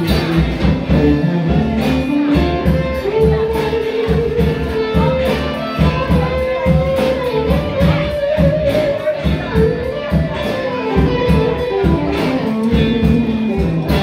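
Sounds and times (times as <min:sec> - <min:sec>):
drum kit beat: 0:00.0 - 0:14.0
live rock band playing: 0:00.0 - 0:14.0.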